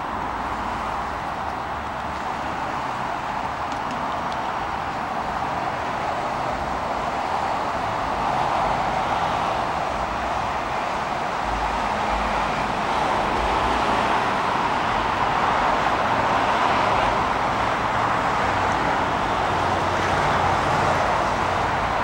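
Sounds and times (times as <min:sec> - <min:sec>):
road traffic hiss: 0:00.0 - 0:22.0.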